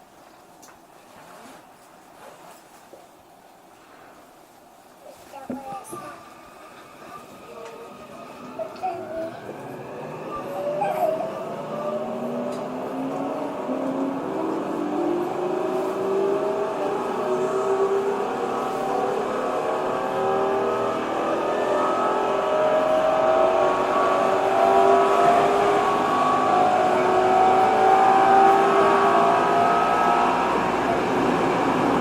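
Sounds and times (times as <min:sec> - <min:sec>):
train rail noise: 0:05.3 - 0:32.0
train motors whining: 0:05.9 - 0:32.0.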